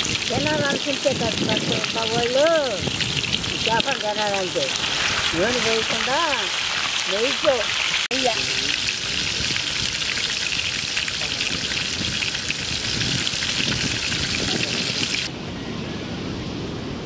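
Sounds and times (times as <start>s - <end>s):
oil sizzling around frying fish: 0.0s - 15.3s.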